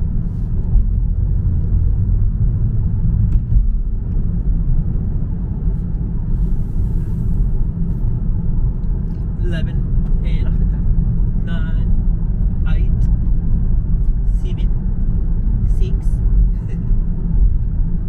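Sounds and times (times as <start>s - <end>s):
car interior engine and road noise: 0.0s - 18.0s.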